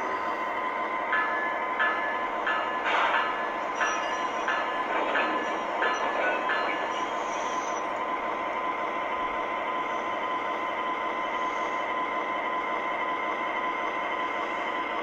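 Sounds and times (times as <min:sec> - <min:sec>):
motor and wheels humming on track: 0:00.0 - 0:15.0.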